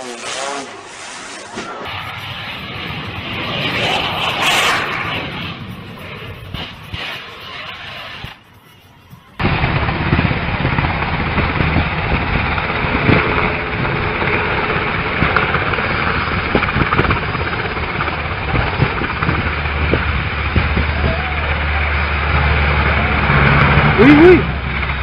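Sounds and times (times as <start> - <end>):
helicopter rotor chop: 0.0 - 25.0.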